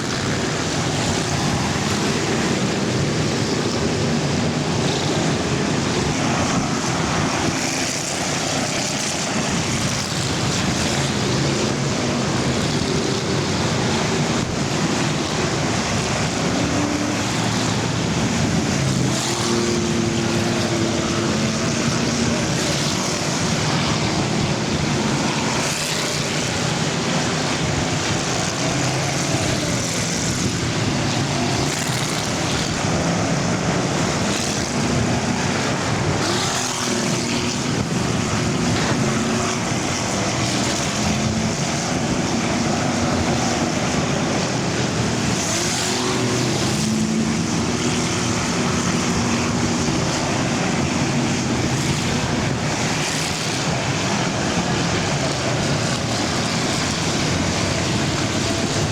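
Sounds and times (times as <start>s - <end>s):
racing car engines: 0.0s - 58.9s.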